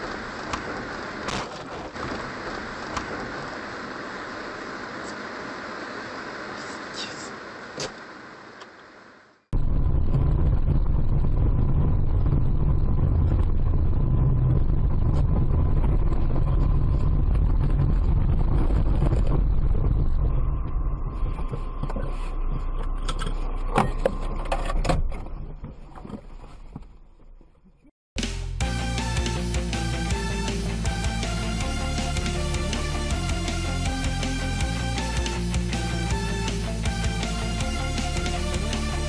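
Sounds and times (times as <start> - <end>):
vehicle engine and road noise: 0.0 - 27.5, 28.2 - 39.0.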